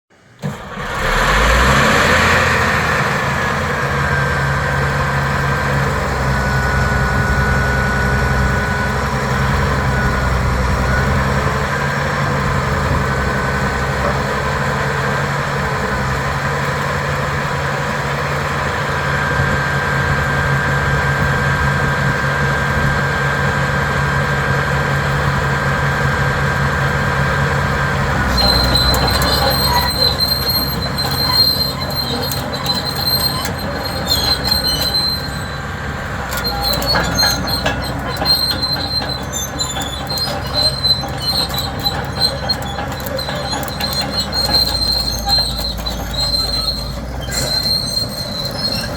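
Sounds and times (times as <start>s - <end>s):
bulldozer diesel engine running: 0.1s - 48.9s.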